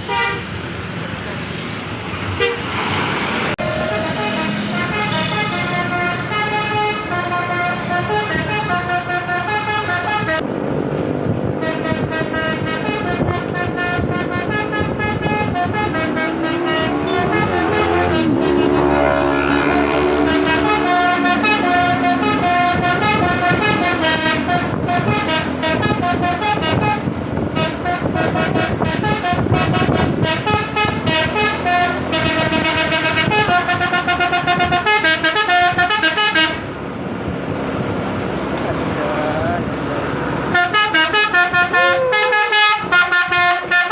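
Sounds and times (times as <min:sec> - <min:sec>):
multi-tone bus air horn: 0:00.0 - 0:00.6, 0:02.4 - 0:02.7, 0:03.6 - 0:10.4, 0:11.5 - 0:36.7, 0:40.5 - 0:43.9.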